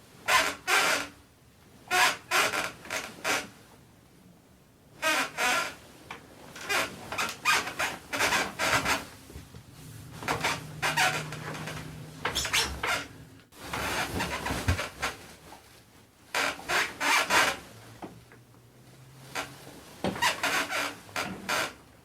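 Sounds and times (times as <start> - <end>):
spring mattress creaking and squeaking: 0.2 - 1.2, 1.9 - 3.6, 5.0 - 15.6, 16.3 - 22.0.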